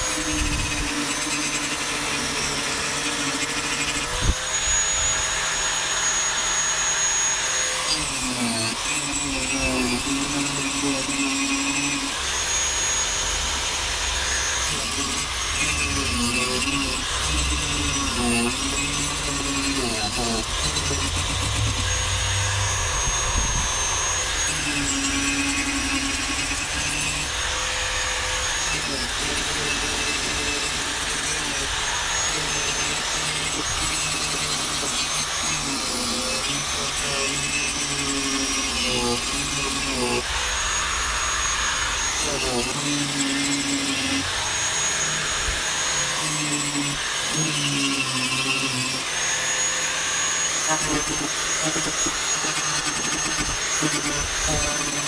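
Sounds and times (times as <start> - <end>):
rotary tool grinding whine: 0.0 - 55.0.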